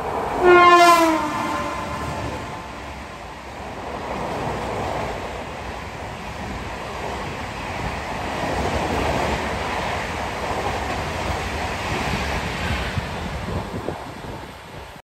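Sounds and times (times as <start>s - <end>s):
train coaches passing at speed: 0.0s - 15.0s.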